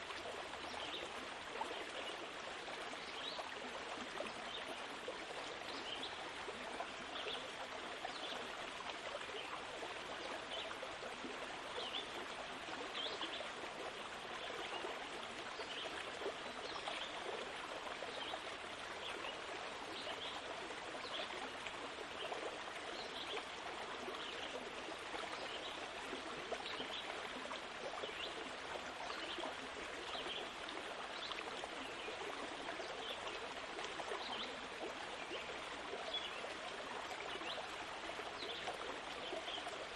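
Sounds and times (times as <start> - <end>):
stream running water: 0.0 - 39.9
water trickling splashes: 0.0 - 39.9.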